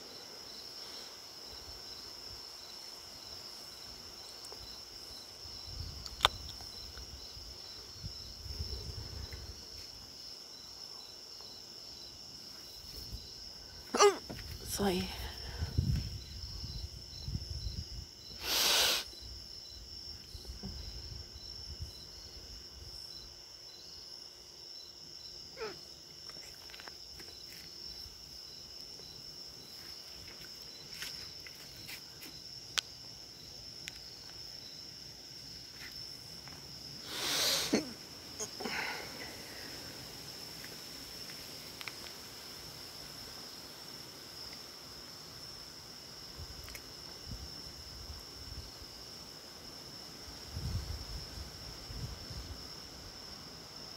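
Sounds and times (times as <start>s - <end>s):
insect high-pitched trill: 0.0s - 53.9s
slow pulsing insect chirp: 0.0s - 53.9s.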